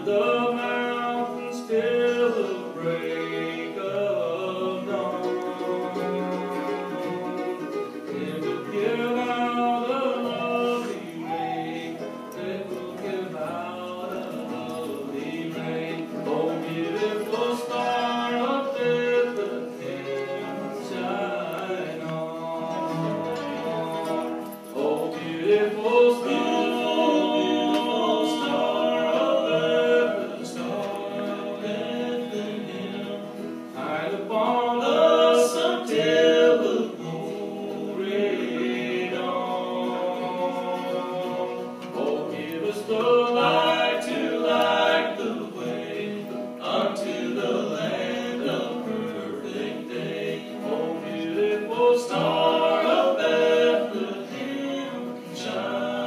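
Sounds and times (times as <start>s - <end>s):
guitar accompaniment: 0.0s - 56.0s
several voices singing together: 0.0s - 56.0s.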